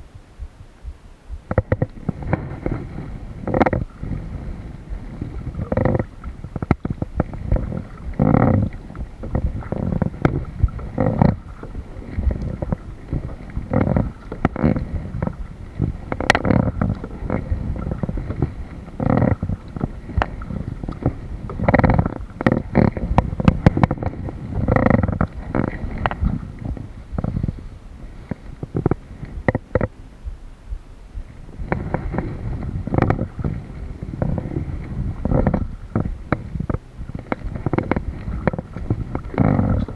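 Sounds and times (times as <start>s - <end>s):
low rumbles and knocks: 0.0s - 39.9s
paddle strokes: 0.0s - 39.9s
water sloshing around kayak: 0.0s - 39.9s.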